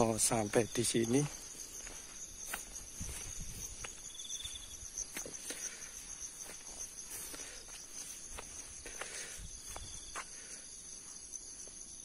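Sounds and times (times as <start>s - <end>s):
crickets chirring: 0.0s - 12.0s
insect trill: 0.0s - 12.0s.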